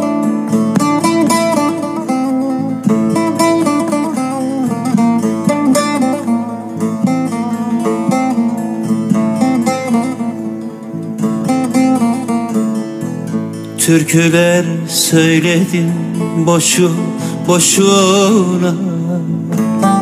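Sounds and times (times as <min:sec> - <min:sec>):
plucked lute melody: 0:00.0 - 0:20.0.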